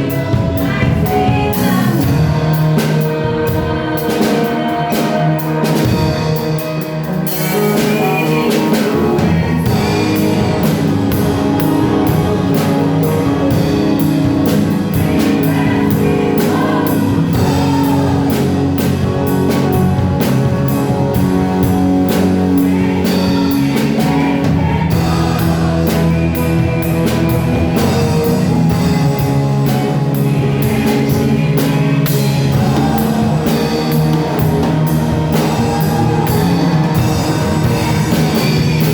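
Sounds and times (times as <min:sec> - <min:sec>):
drum kit: 0:00.0 - 0:38.9
guitar: 0:00.0 - 0:38.9
person singing: 0:00.0 - 0:38.9
worship band playing: 0:00.0 - 0:38.9.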